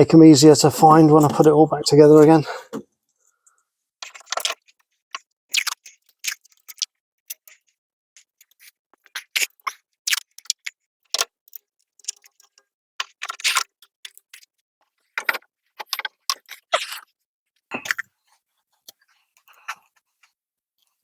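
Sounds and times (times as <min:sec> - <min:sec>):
short rasps and clicks: 0:02.7 - 0:18.2, 0:18.8 - 0:20.4.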